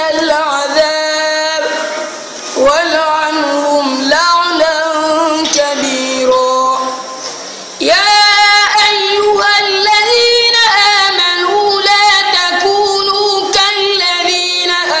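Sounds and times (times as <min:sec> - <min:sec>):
boy chanting melodically: 0:00.0 - 0:07.2, 0:07.8 - 0:15.0.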